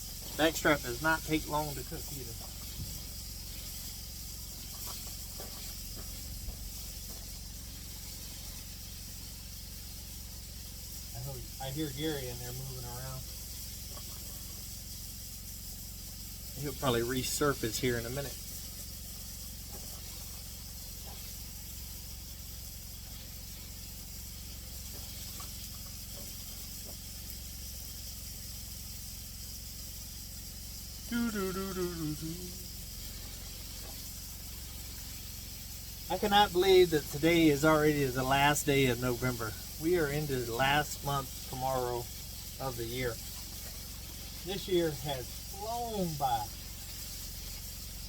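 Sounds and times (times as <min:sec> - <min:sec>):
meat sizzling in a frying pan: 0:00.0 - 0:31.2, 0:32.6 - 0:48.0.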